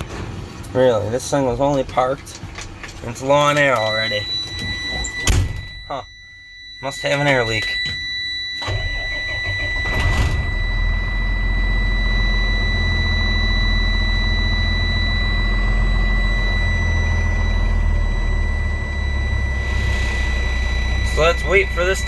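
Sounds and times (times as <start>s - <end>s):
diesel truck engine starting and idling: 0.0s - 6.1s, 8.6s - 22.0s
steady high-pitched tone: 3.1s - 22.0s.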